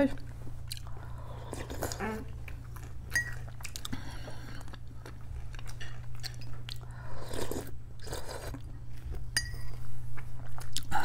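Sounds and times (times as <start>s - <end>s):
steady low hum: 0.0s - 11.0s
chewing fried pastry: 0.2s - 11.0s.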